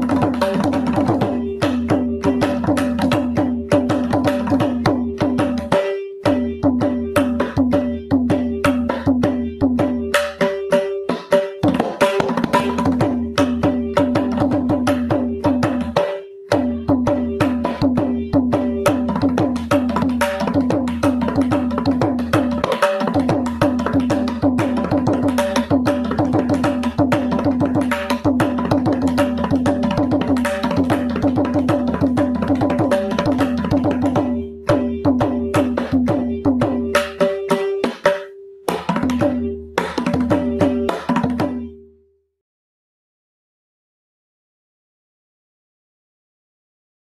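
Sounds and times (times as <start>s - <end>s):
mridangam drum strokes: 0.0s - 41.9s.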